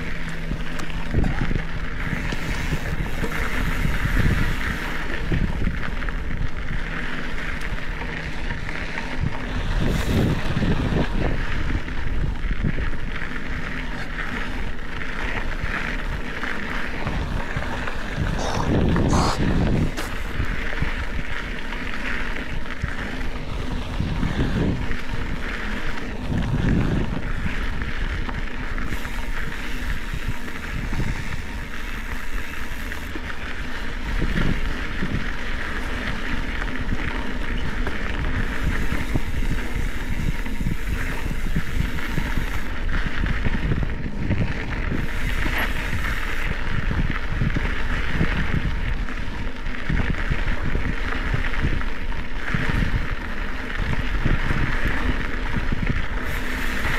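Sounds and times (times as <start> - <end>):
bike tyres rolling on dirt: 0.0 - 56.9
wind noise on microphone: 0.0 - 56.9.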